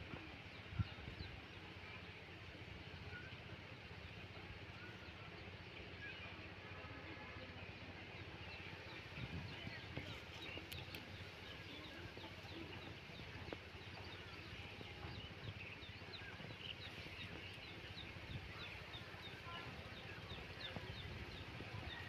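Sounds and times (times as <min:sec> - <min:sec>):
birds chirping: 0:00.0 - 0:22.0
faint outdoor ambience: 0:00.0 - 0:22.0.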